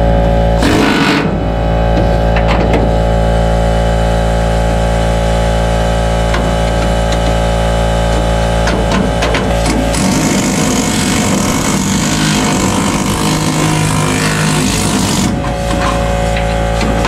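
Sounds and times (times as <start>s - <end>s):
steady motor drone: 0.0s - 17.0s.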